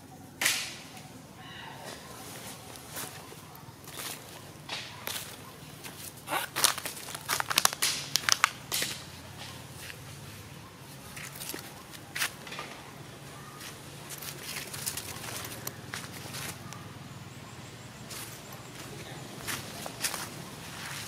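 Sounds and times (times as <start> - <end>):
dry leaves and twigs crackling: 0.1 - 21.0.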